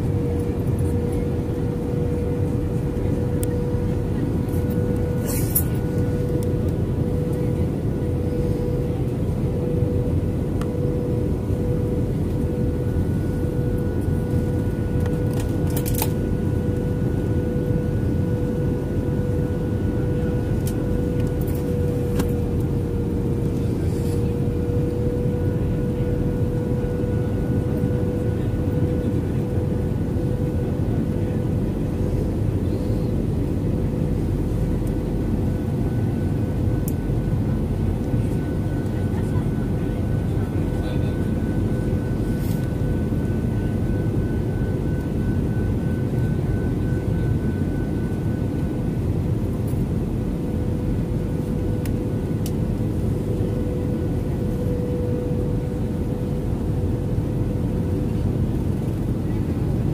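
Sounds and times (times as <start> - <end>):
airliner cabin engine rumble: 0.0 - 59.9
constant cabin hum: 0.0 - 59.9.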